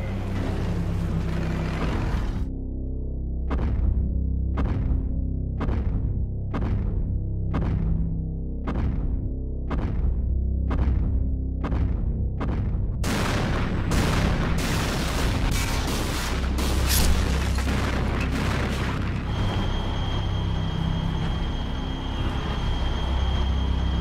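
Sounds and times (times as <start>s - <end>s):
music with heavy low rumble: 0.0s - 24.0s.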